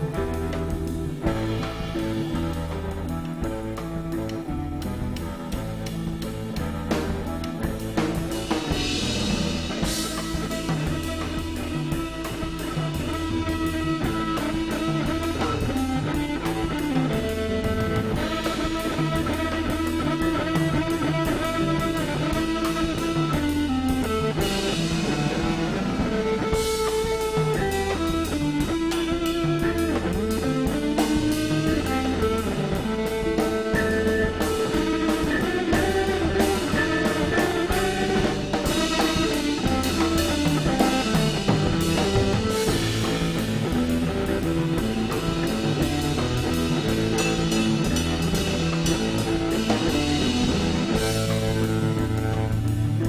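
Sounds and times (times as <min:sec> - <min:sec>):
electric guitar: 0:00.0 - 0:53.0
rock band instrumental: 0:00.0 - 0:53.0
steady drum beat: 0:00.0 - 0:53.0.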